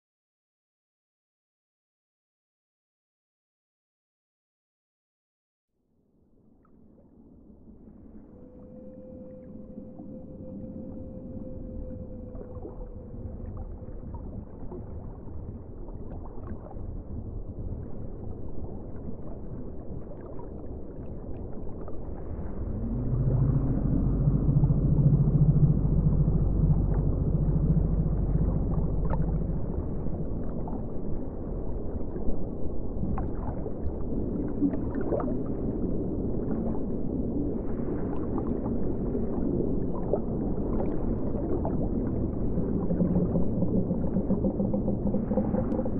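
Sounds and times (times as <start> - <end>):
low murky ambient drone: 5.9 - 45.9.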